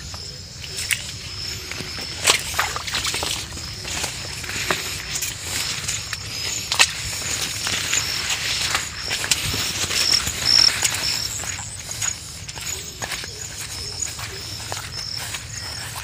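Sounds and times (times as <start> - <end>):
branches and bushes rustling: 0.0 - 16.0.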